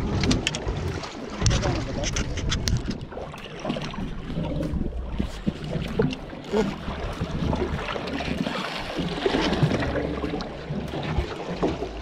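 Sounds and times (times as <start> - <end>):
water slapping against hull: 0.0 - 12.0
wind on microphone: 0.0 - 12.0.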